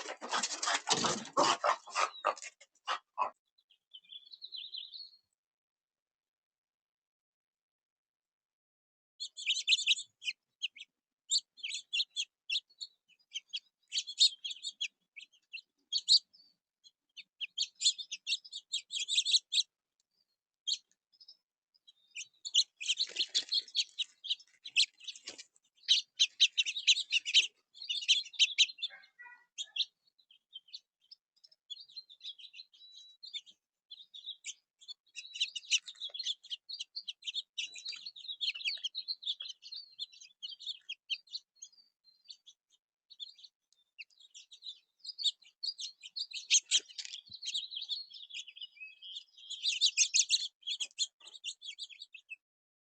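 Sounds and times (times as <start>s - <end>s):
songbirds chirping: 0.0s - 6.8s, 9.2s - 52.6s.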